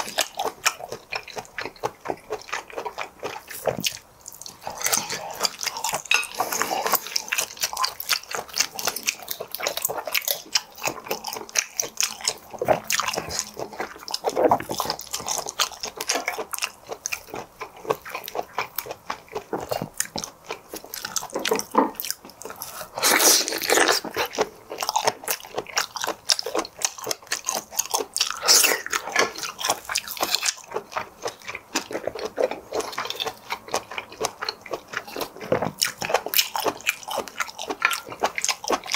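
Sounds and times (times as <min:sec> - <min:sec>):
chewing shellfish: 0:00.0 - 0:38.9.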